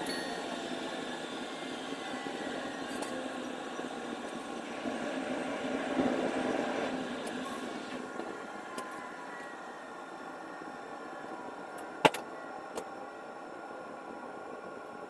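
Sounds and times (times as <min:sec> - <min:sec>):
train rolling on track: 0:00.0 - 0:15.0.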